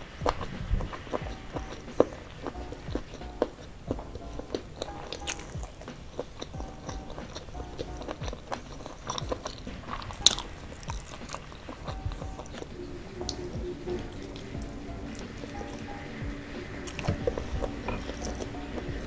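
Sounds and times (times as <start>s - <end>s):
chewing with wet smacks: 0.0s - 19.0s.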